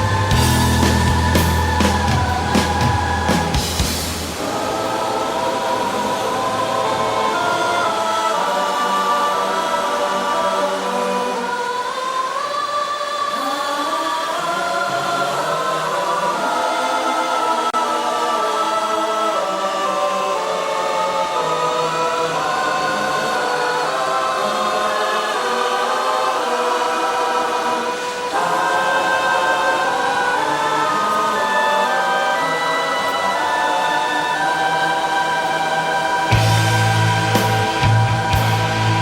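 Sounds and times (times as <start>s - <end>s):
choir-like voices holding chords: 0.0s - 39.0s.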